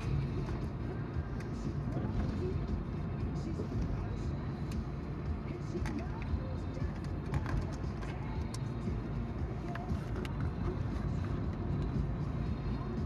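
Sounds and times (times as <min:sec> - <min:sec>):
car engine humming: 0:00.0 - 0:13.0
tyres rumbling on road: 0:00.0 - 0:13.0.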